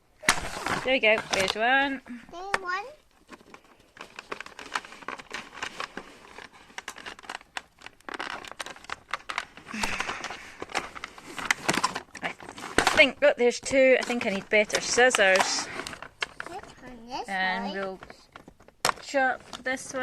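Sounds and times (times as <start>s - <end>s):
plastic packaging crinkling: 0.2s - 20.0s.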